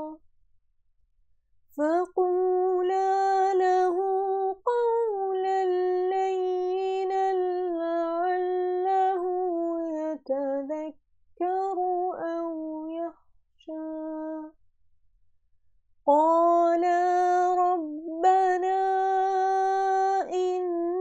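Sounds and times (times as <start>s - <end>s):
woman chanting melodically: 1.8s - 14.5s, 16.1s - 21.0s.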